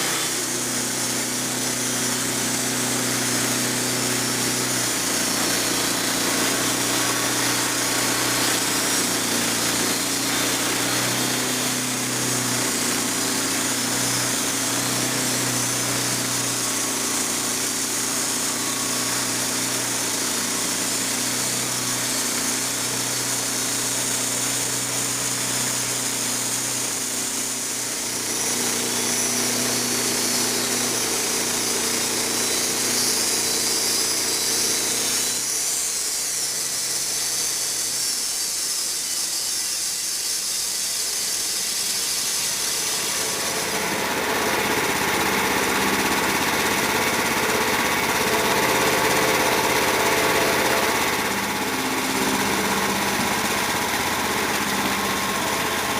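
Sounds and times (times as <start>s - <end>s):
saw hissing through wood: 0.0s - 55.9s
sawmill engine running: 0.0s - 55.9s.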